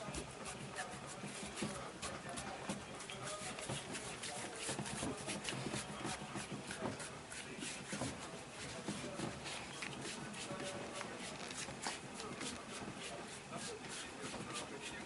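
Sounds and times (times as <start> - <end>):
hands rubbing and patting body: 0.0 - 15.0.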